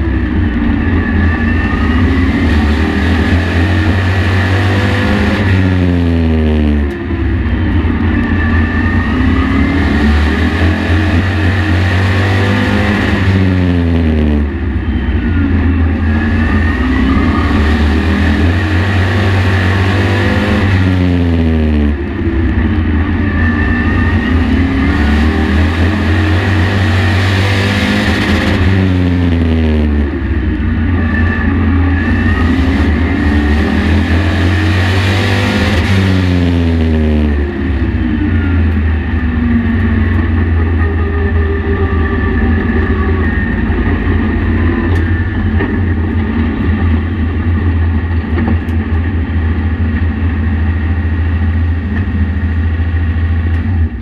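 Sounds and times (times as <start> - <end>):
race truck engine revving: 0.0 - 54.0.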